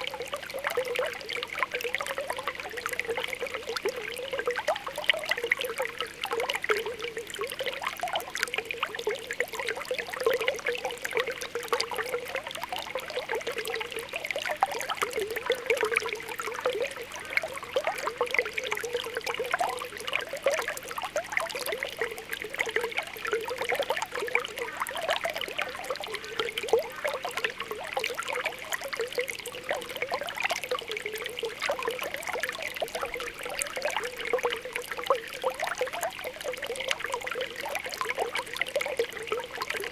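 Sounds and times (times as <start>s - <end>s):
soft water trickle: 0.0s - 39.9s
water popping and bubbling: 0.0s - 39.9s.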